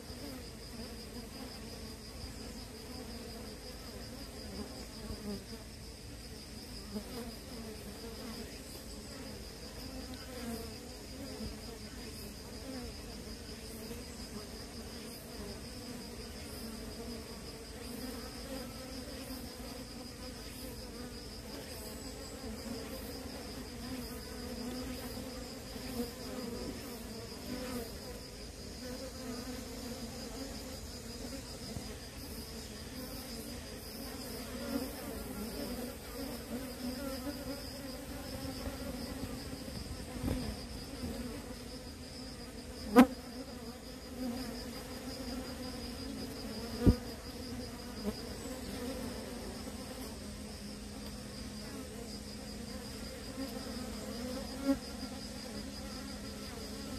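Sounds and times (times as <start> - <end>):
honeybees buzzing: 0.0 - 56.9.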